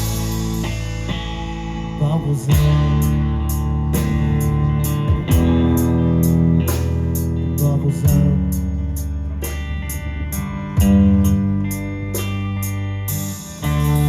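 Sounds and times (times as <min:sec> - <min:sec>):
guitars and bass chords: 0:00.0 - 0:14.0.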